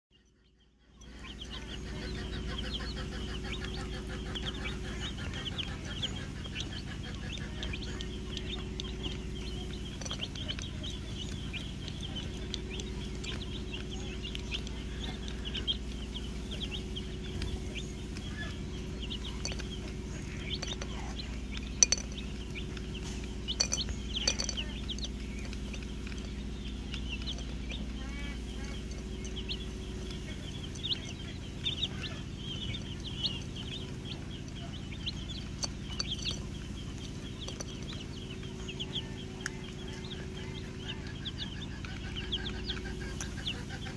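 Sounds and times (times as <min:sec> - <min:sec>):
chicks peeping: 0:00.1 - 0:43.9.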